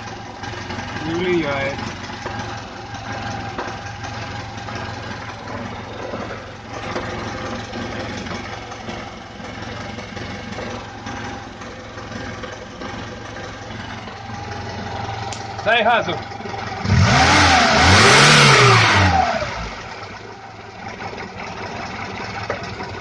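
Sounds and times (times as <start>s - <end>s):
repeated engine knock: 0.0s - 17.4s, 20.1s - 23.0s
car engine idling: 0.0s - 23.0s.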